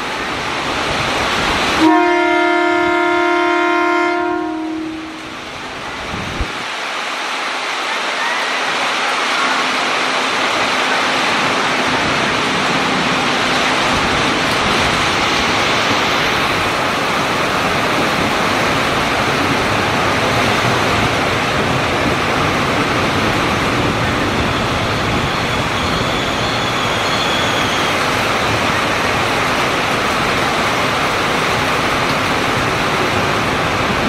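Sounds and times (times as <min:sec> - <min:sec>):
electric train rolling past: 0:00.0 - 0:34.0
heavy rain pouring: 0:00.0 - 0:34.0.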